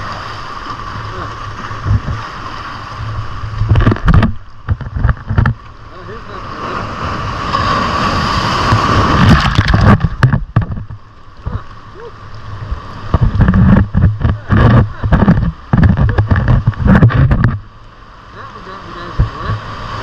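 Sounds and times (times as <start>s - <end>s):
surf surging over rocks: 0.0s - 20.0s.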